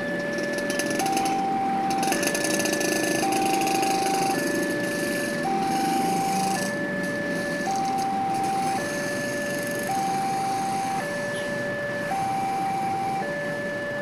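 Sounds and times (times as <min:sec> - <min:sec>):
motorcycle traffic: 0:00.0 - 0:14.0
two-tone crossing alarm: 0:00.0 - 0:14.0.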